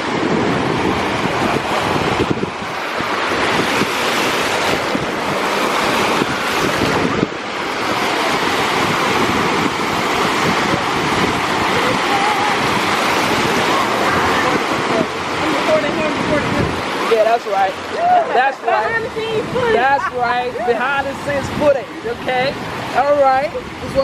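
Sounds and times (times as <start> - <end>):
ocean surf on beach: 0.0 - 24.0
wind noise on microphone: 0.0 - 24.0.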